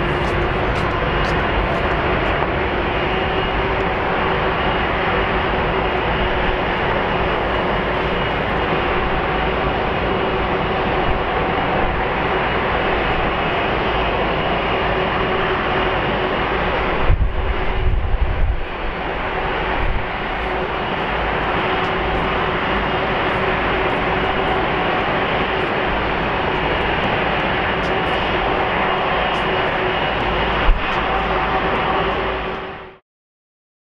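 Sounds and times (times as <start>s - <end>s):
humming tones: 0.0s - 32.9s
jet engine noise: 0.0s - 33.0s.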